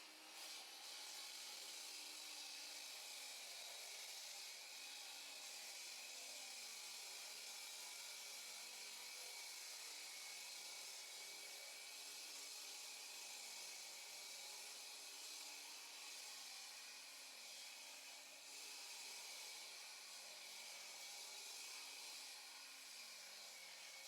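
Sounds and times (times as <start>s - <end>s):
power saw cutting concrete: 0.0s - 24.0s.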